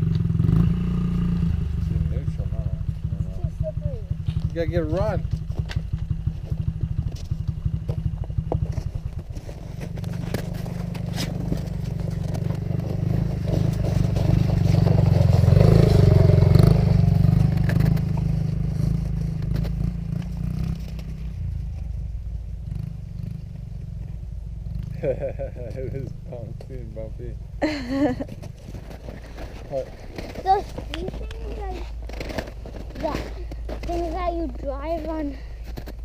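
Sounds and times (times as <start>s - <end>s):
dirt bike engine running: 0.0s - 36.0s.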